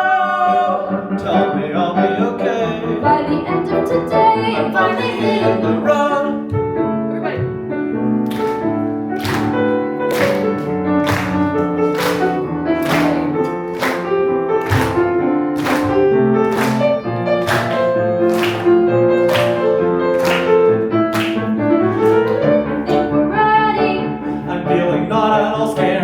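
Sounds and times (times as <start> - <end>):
piano playing: 0.0 - 26.0.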